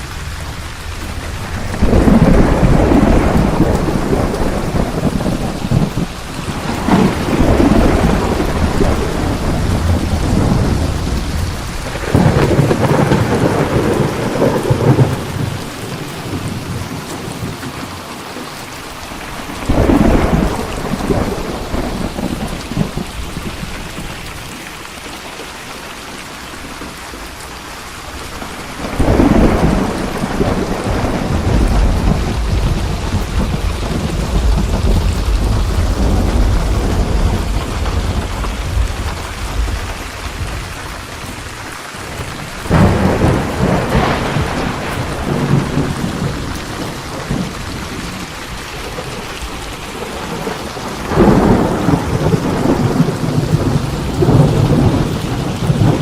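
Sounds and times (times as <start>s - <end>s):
rolling thunder: 0.0s - 18.0s, 18.8s - 24.6s, 28.0s - 56.0s
heavy rain: 0.0s - 56.0s.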